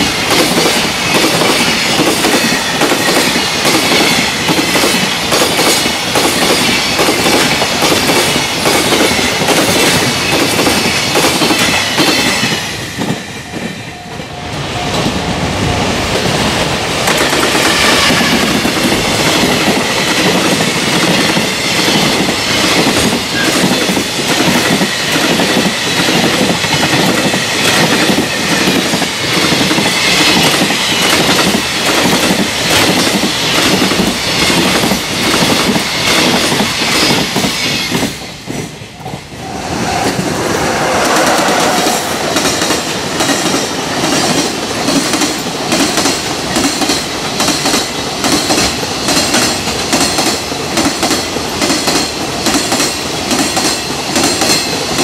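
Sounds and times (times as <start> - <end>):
train wheels clickety-clack: 0.0 - 55.0.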